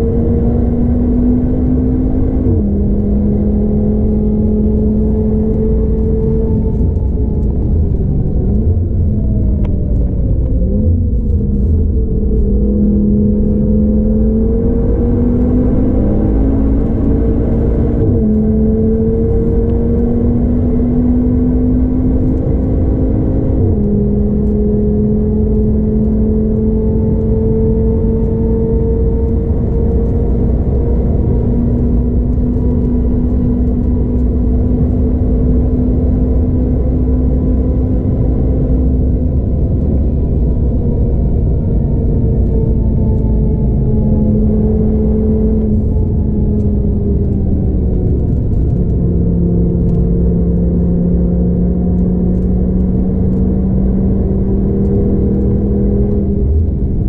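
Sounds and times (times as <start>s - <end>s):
car engine accelerating: 0.0s - 57.0s
road rumble: 0.0s - 57.0s.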